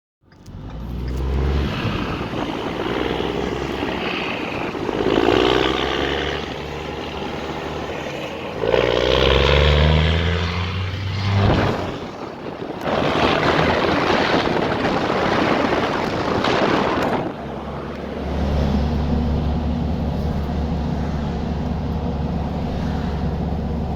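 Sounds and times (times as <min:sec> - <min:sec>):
diesel engine revving: 0:00.2 - 0:23.9.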